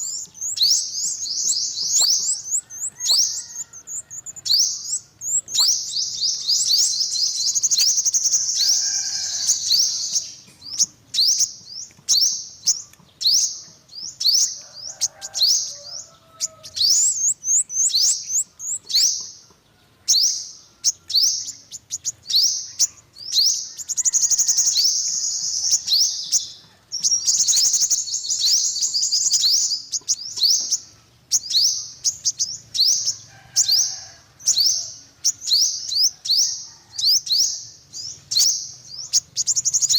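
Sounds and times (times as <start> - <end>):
sunbird twittering trills: 0.0 - 39.9.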